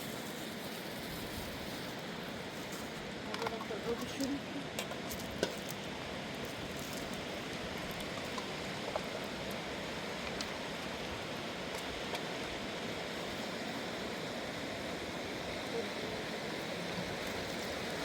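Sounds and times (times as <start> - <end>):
mountain river flowing: 0.0 - 18.0.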